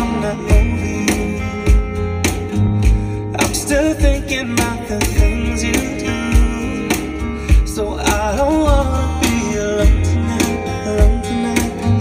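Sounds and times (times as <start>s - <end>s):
pop song through car speakers: 0.0s - 12.0s.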